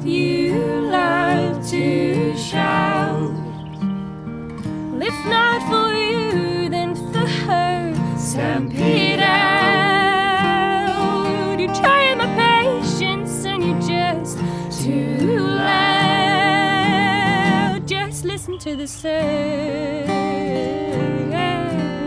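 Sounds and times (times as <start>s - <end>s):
women singing in harmony: 0.0s - 3.7s, 4.9s - 22.0s
acoustic guitars strumming: 0.0s - 22.0s.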